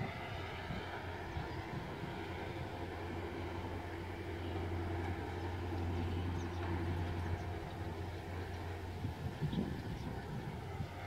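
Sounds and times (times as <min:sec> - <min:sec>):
distant freight train rumble: 0:00.0 - 0:11.0.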